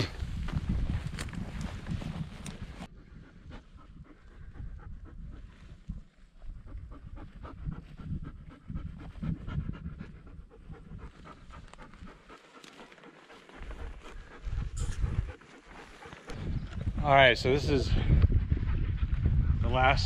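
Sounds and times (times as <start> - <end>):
dog panting: 2.2 - 17.0, 18.0 - 19.7.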